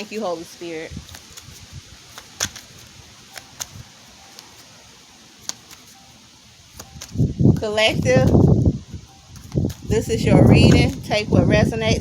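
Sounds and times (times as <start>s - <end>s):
faint steady hiss: 0.0s - 11.1s.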